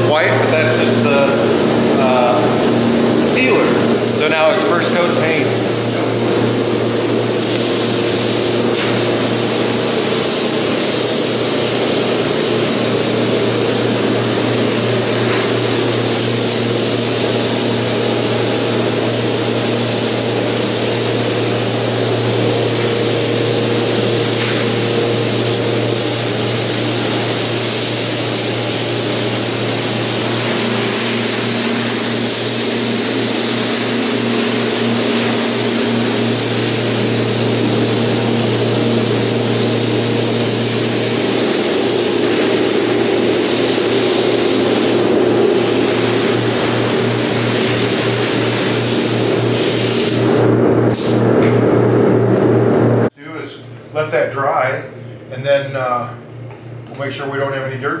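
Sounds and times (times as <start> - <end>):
steady low hum: 0.0 - 58.0
paint spray gun hissing: 0.4 - 50.4.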